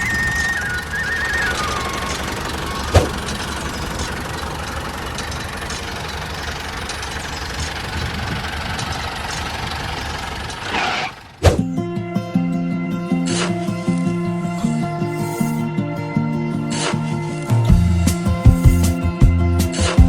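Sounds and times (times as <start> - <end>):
engine idling: 0.0 - 12.0, 12.6 - 20.0.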